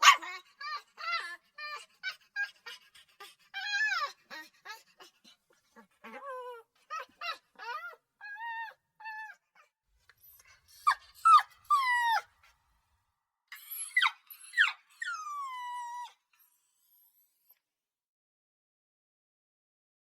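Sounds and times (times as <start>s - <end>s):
puppy whimpering and yelping: 0.0s - 12.5s, 13.5s - 17.6s.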